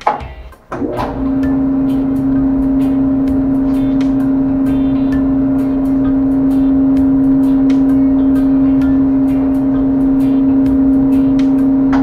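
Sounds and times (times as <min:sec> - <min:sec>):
drum rumbling: 0:00.0 - 0:12.0
dryer motor humming: 0:00.0 - 0:12.0.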